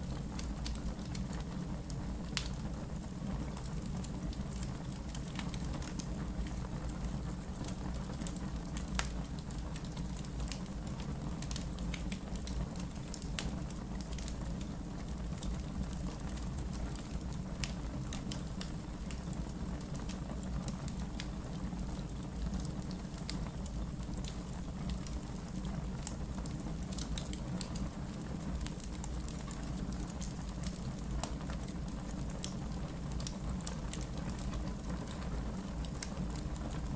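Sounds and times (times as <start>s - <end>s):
low rumble of flames: 0.0s - 36.9s
wood fire crackling: 0.0s - 36.9s.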